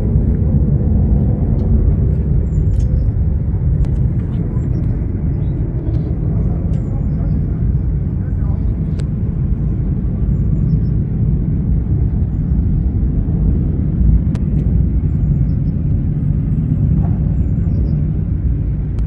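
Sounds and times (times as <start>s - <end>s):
loud low rumble: 0.0s - 19.0s.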